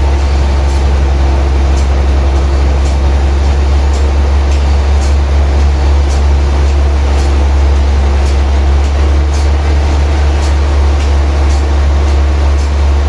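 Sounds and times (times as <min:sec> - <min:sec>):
sawmill machinery droning: 0:00.0 - 0:13.0.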